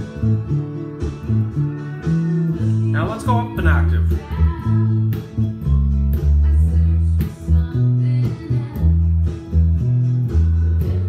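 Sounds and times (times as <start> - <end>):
country song with strummed guitar: 0.0 - 11.0
electric bass low notes: 0.0 - 11.0.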